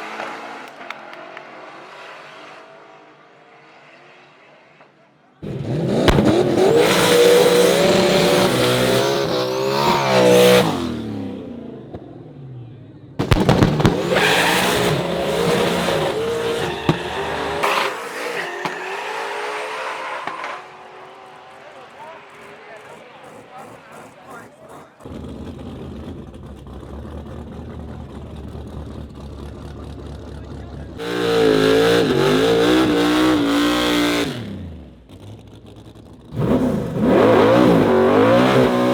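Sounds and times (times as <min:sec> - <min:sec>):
race car engines at full throttle: 0:00.0 - 0:38.9.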